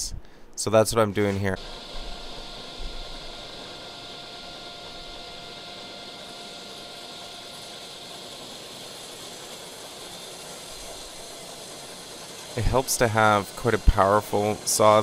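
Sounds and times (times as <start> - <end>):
table saw running: 1.2 - 15.0.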